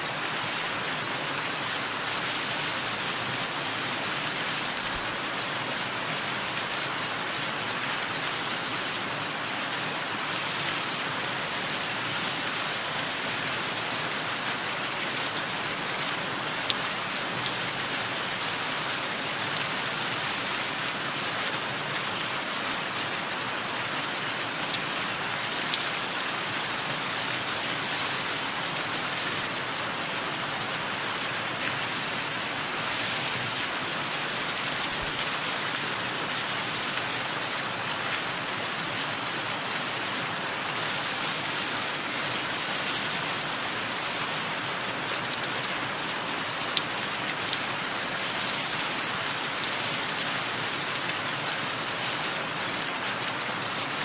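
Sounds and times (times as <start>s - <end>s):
steady rain: 0.0s - 54.0s
small birds chirping: 0.2s - 3.2s, 4.7s - 5.8s, 7.0s - 11.2s, 12.8s - 15.0s, 15.8s - 18.2s, 20.2s - 37.8s, 38.4s - 44.8s, 45.6s - 50.6s, 51.8s - 54.0s.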